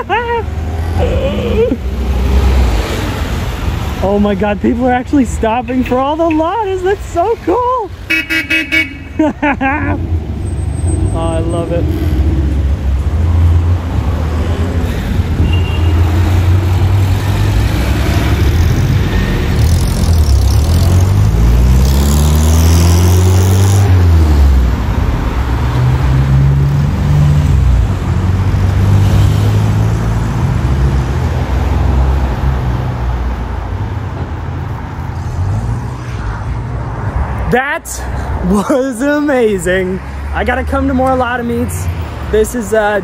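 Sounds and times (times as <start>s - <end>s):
cars driving past: 0.0s - 43.0s
road noise: 0.0s - 43.0s.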